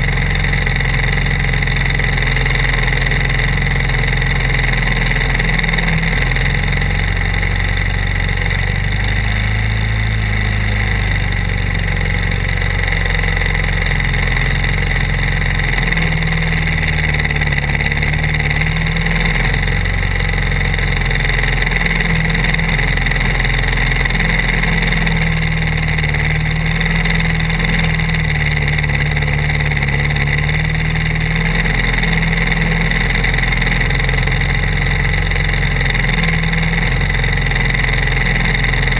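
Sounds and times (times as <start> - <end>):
kart engines idling: 0.0 - 38.9.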